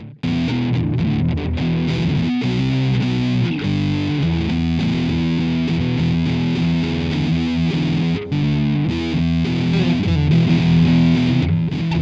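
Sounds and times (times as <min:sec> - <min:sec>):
distorted electric guitar chords: 0:00.0 - 0:12.0.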